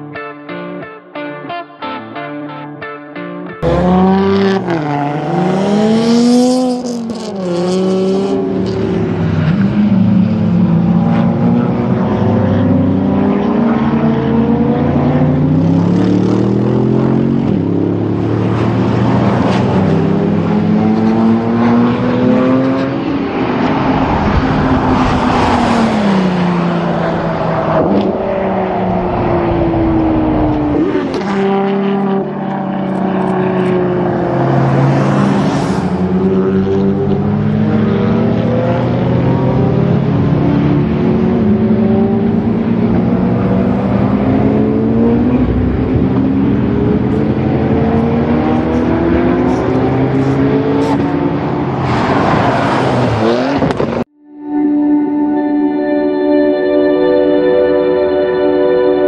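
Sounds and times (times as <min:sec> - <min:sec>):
race car engine revving: 0:03.6 - 0:54.1.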